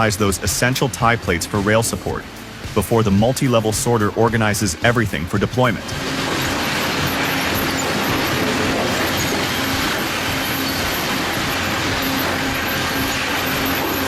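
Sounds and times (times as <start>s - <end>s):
industrial machinery metallic hiss: 0.0s - 14.0s
low machinery hum: 0.0s - 14.0s.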